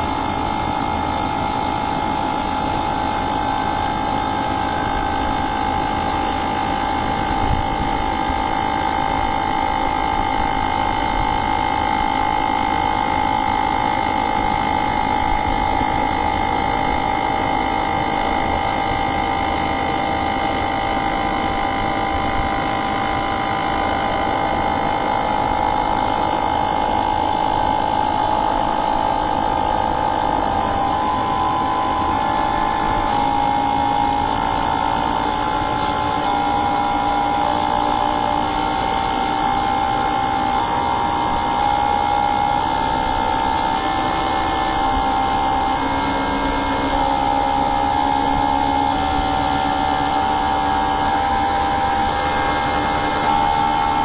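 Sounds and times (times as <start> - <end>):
air conditioner running: 0.0 - 54.0.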